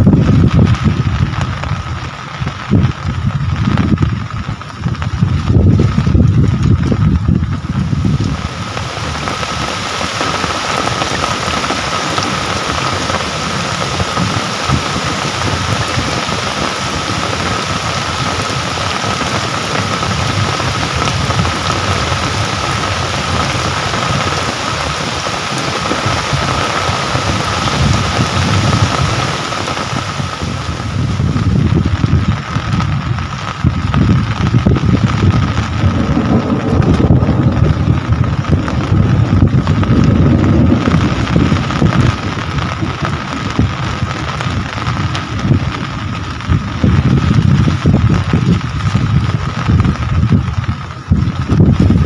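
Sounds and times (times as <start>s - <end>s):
gusty low rumbling: 0.0s - 52.0s
rain hissing: 0.0s - 52.0s.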